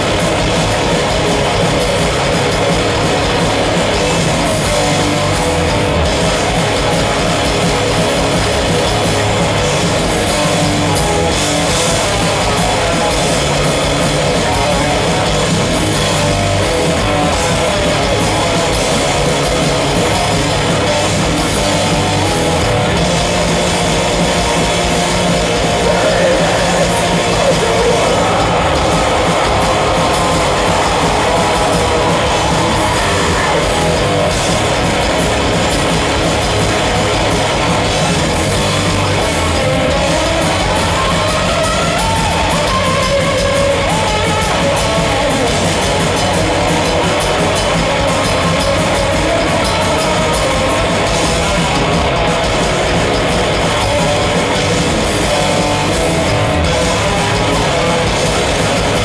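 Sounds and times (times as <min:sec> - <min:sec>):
distorted electric guitars: 0:00.0 - 0:59.0
drum kit: 0:00.0 - 0:59.0
heavy metal band playing live: 0:00.0 - 0:59.0.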